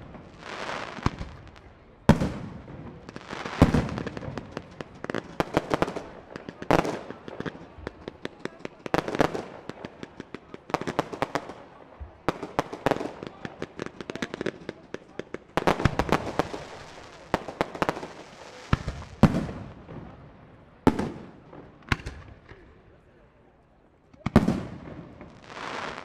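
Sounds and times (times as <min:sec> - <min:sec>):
loud firework bangs: 0:00.0 - 0:11.5, 0:12.2 - 0:20.2, 0:24.2 - 0:26.0
firework crackling: 0:00.0 - 0:20.2, 0:24.3 - 0:26.0.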